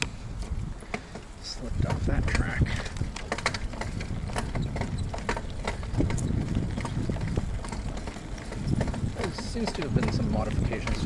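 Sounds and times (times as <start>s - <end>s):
bicycle clicks and rattles: 0.0s - 11.0s
bicycle rolling on dirt trail: 0.0s - 11.0s.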